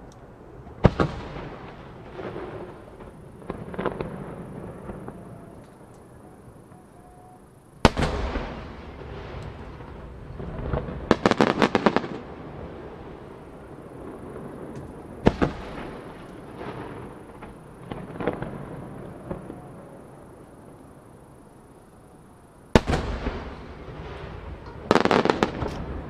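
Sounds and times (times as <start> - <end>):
firework crackling: 0.0 - 26.0
firework booms: 0.6 - 21.4, 22.7 - 26.0.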